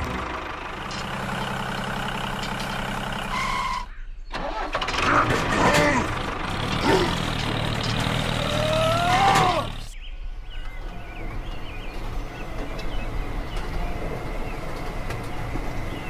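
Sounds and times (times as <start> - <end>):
tractor engine whining: 0.0 - 16.0.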